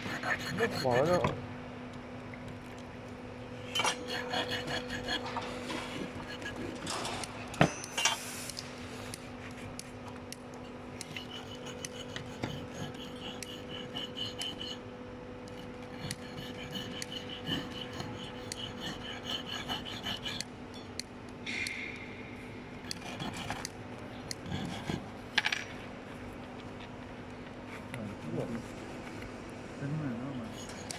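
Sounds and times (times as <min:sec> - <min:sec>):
machine hum: 0:00.0 - 0:30.9.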